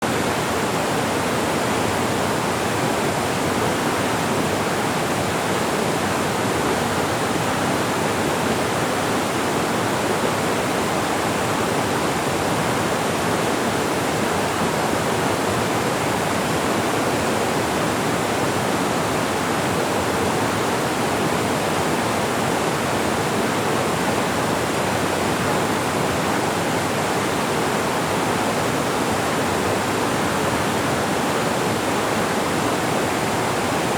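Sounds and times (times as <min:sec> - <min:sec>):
stream rushing over rocks: 0:00.0 - 0:33.9.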